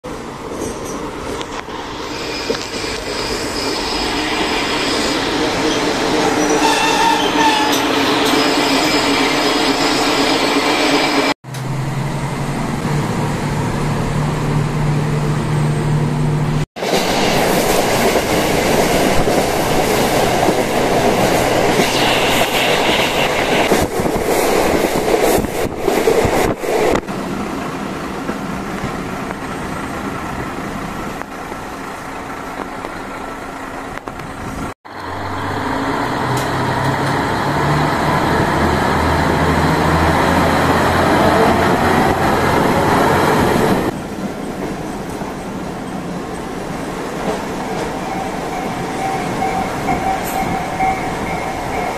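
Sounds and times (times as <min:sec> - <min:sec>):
railcar engine hum: 0:00.0 - 0:51.9.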